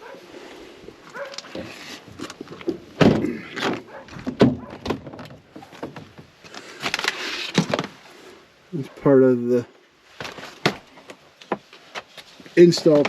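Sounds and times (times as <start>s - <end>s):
rustling: 0.0s - 8.4s, 10.0s - 13.0s.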